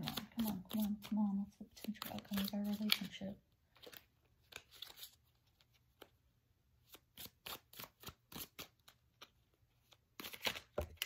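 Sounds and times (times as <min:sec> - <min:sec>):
cards being shuffled: 0:00.0 - 0:06.2, 0:06.8 - 0:11.0.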